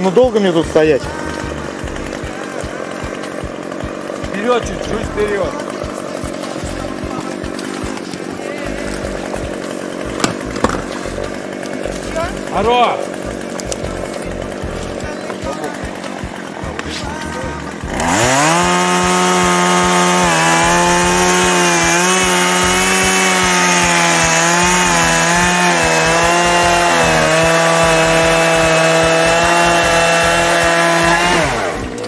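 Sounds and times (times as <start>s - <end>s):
chainsaw cutting log: 0.0s - 32.0s.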